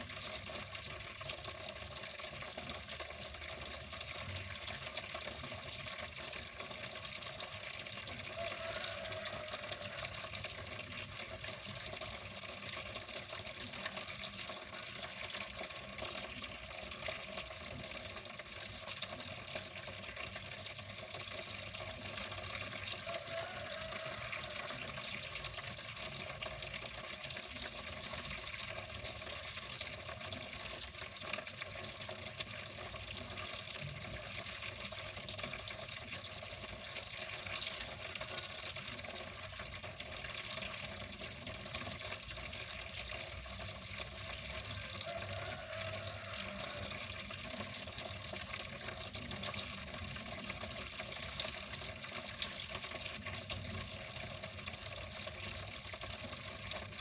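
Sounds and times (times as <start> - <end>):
water flowing: 0.0 - 57.0.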